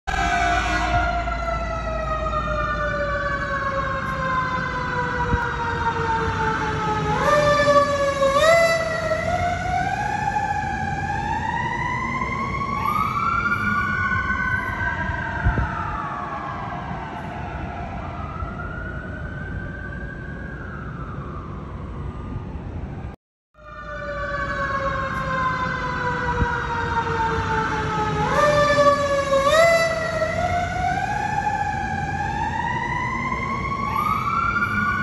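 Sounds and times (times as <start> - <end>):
fire truck siren wailing: 0.1 - 35.0.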